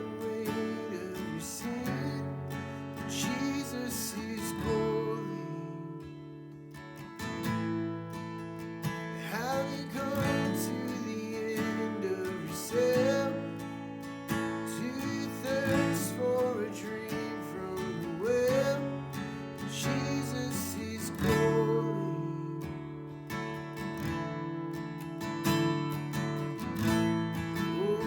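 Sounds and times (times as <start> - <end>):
acoustic guitar strumming: 0.0 - 28.0
sliding guitar melody: 0.0 - 28.0.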